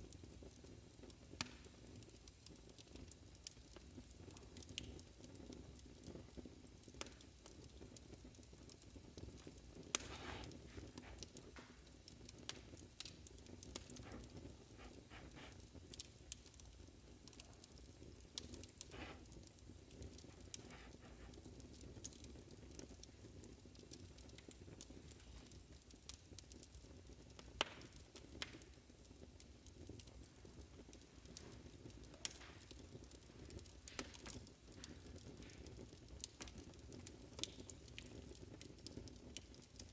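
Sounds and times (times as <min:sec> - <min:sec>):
fire popping: 0:00.0 - 0:39.9
low rumble of burning: 0:00.0 - 0:39.9
wood fire crackling: 0:00.0 - 0:39.9.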